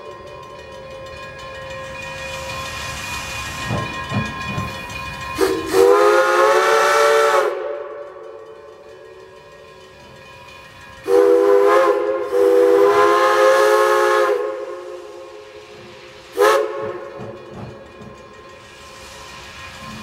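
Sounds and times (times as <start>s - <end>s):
steam locomotive chime whistle: 0.0s - 20.0s
steam hiss: 0.2s - 20.0s.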